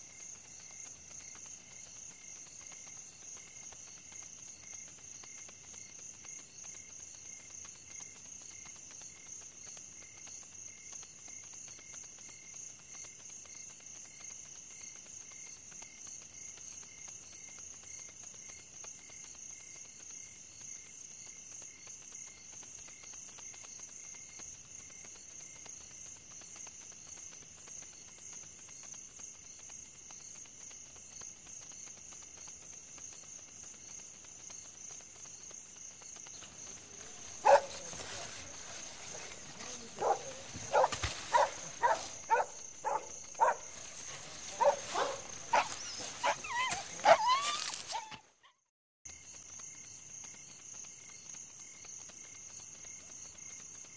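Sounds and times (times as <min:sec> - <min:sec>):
crickets trilling: 0:00.0 - 0:48.1, 0:49.1 - 0:53.9
lower cricket chirp: 0:00.0 - 0:48.1, 0:49.1 - 0:53.9.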